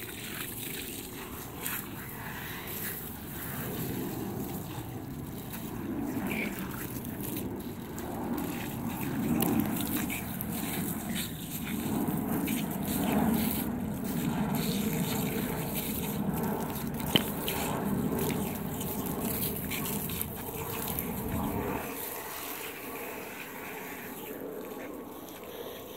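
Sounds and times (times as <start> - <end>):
water spraying from hose: 0.0 - 25.9.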